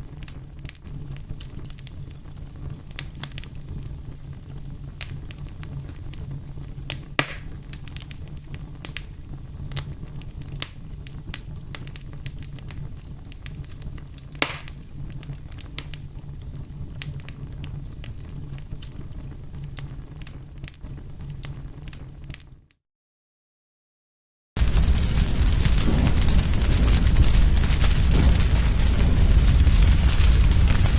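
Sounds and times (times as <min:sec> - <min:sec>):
campfire crackling: 0:00.0 - 0:22.4, 0:24.6 - 0:30.9
loud fire pops: 0:00.0 - 0:22.5, 0:24.6 - 0:30.9.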